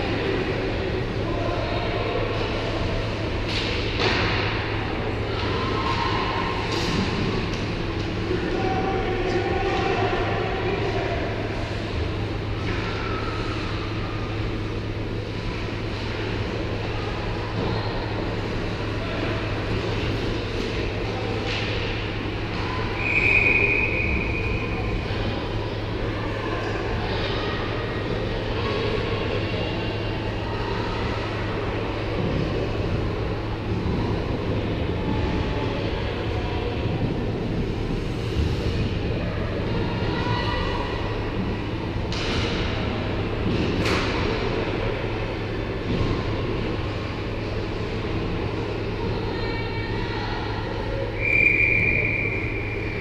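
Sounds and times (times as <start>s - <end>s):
ice arena background noise: 0.0s - 53.0s
rink and crowd noise: 0.0s - 53.0s
steady low hum: 0.0s - 53.0s.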